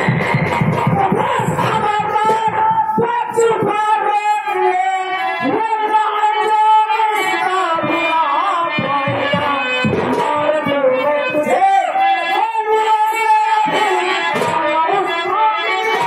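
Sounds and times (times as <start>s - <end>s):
musical accompaniment: 0.0s - 16.0s
person singing over loudspeaker: 0.0s - 16.0s.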